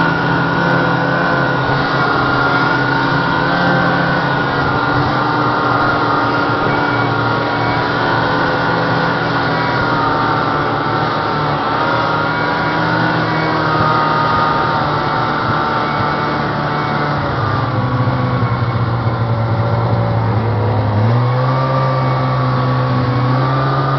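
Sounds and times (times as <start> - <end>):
snowmobile engine running: 0.0 - 23.9.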